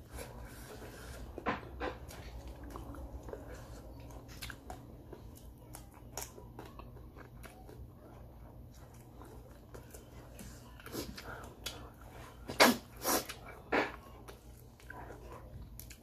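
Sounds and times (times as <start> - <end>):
low steady hum: 0.0 - 16.0
person chewing food: 0.0 - 16.0.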